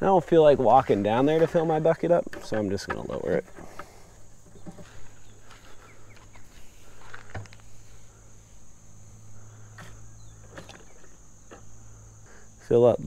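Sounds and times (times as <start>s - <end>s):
insect chirring: 0.0s - 13.0s
low steady hum: 0.0s - 13.0s.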